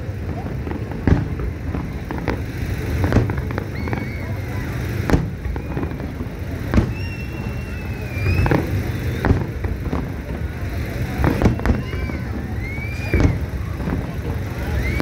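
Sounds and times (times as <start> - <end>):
fireworks bangs: 0.0 - 15.0
whistling firework shells: 0.0 - 15.0.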